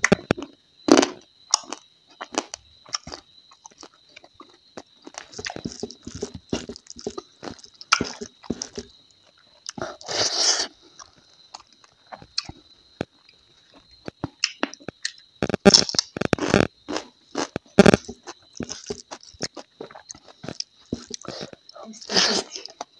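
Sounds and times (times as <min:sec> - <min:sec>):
chewing with wet clicks: 0:00.0 - 0:10.1, 0:11.0 - 0:21.8.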